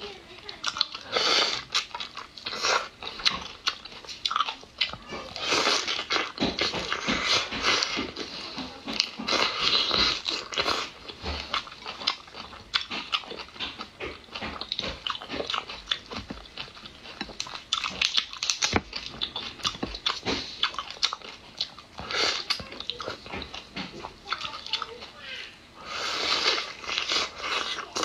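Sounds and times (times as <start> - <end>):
crunchy chewing of shrimp: 0.0 - 28.0.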